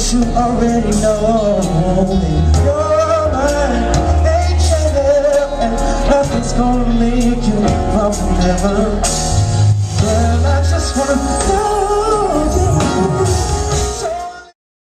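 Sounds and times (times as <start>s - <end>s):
band with bass and drums: 0.0s - 14.5s
man singing: 0.0s - 14.6s.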